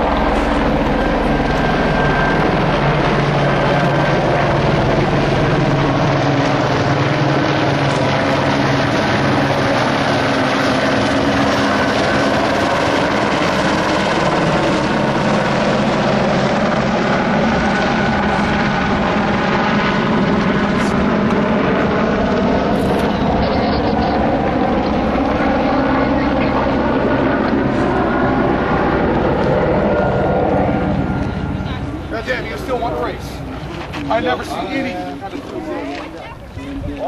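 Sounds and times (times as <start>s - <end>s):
loud mechanical drone: 0.0s - 35.9s.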